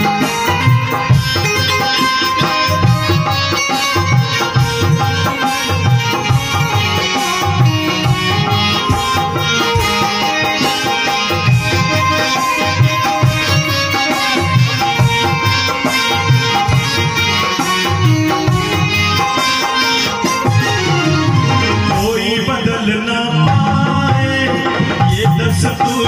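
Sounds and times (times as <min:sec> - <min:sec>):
hand drum rhythm: 0:00.0 - 0:22.4, 0:23.4 - 0:26.0
banjo melody: 0:00.0 - 0:26.0
harmonium: 0:00.0 - 0:26.0.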